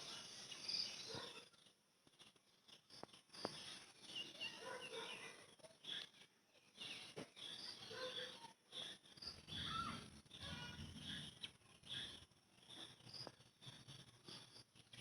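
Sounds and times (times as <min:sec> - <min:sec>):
bird chirps: 0:00.0 - 0:15.0.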